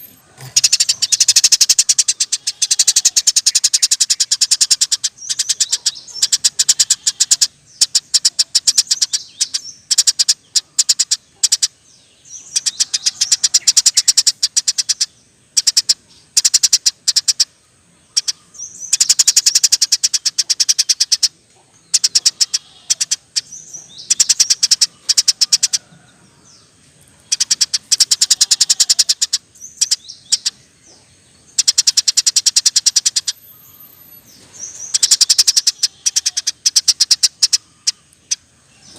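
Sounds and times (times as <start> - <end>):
sparrow chirping in trills: 0.0 - 38.9.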